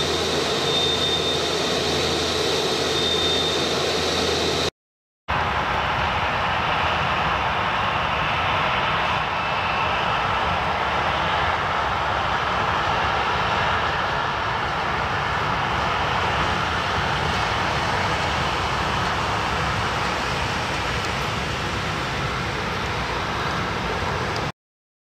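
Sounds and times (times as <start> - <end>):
jet engines rushing: 0.0 - 4.7, 5.3 - 24.5.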